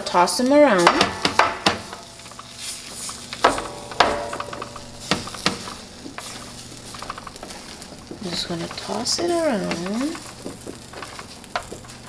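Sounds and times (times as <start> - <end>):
potatoes scraping and sizzling: 0.0 - 12.0
spatulas knocking on pan: 0.7 - 12.0.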